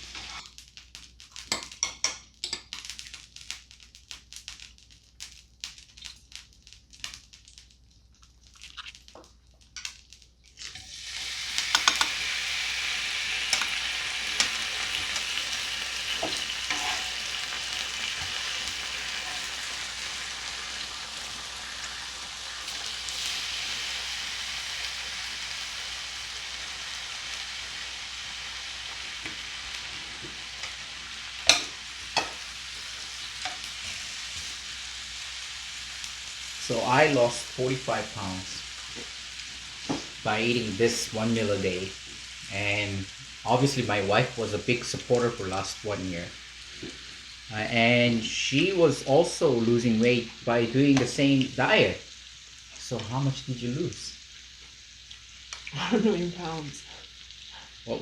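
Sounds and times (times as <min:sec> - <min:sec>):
meat sizzling on a grill: 0:00.0 - 0:58.0.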